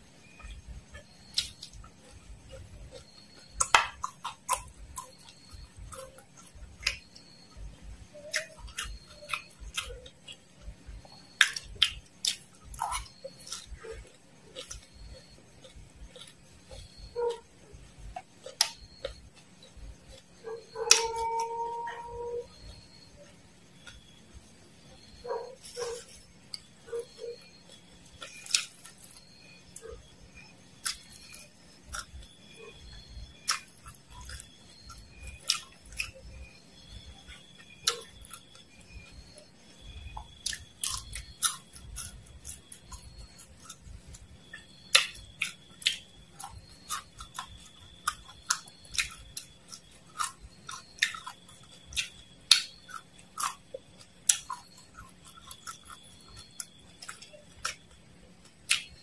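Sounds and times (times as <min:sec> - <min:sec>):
crisp crunching and chewing: 0:00.3 - 0:59.0.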